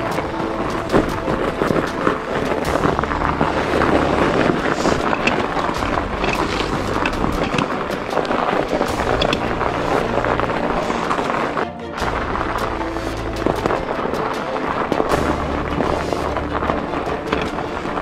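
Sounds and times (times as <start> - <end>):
bike rattling and clicking: 0.0 - 18.0
tyres crunching on snow: 0.0 - 18.0
wind buffeting microphone: 0.0 - 18.0.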